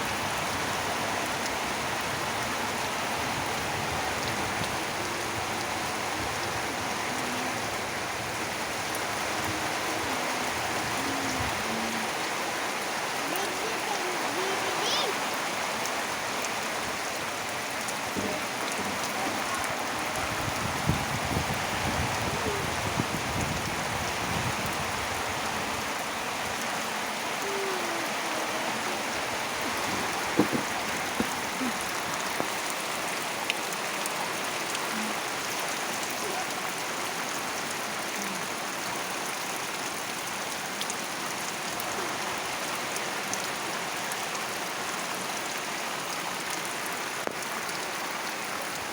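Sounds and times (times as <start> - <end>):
heavy rain falling: 0.0 - 48.9
sharp raindrops: 0.0 - 48.9.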